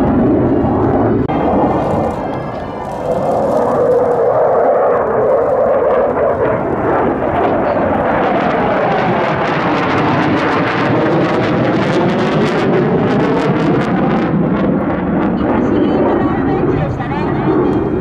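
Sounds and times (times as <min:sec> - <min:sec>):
jet fighter roaring past: 0:00.0 - 0:18.0.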